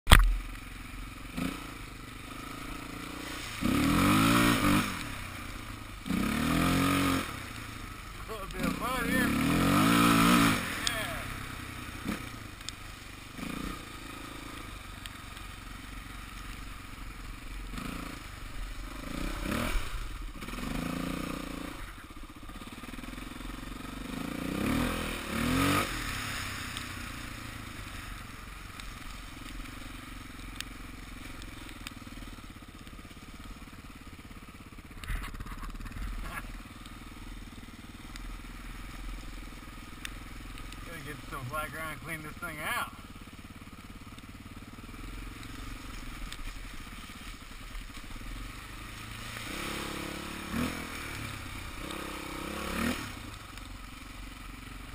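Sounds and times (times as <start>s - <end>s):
dirt bike engine revving: 0.4s - 53.5s.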